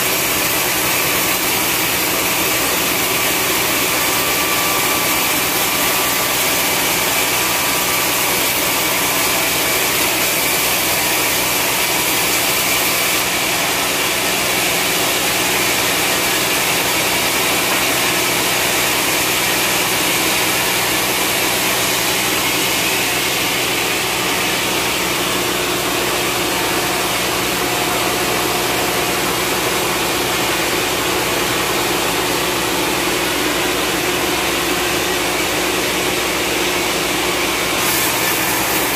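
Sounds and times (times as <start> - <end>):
band saw cutting through log: 0.0 - 38.9.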